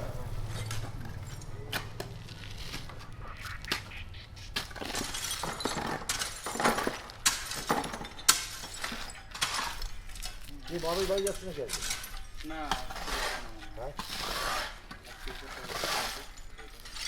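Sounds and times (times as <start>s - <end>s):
debris scraping: 0.0s - 17.0s
rubble clinking and cracking: 0.1s - 17.0s.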